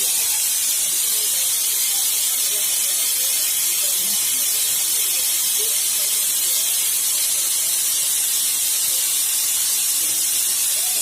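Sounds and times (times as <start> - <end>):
faint voices: 0.0 - 11.0
steady high hiss: 0.0 - 11.0.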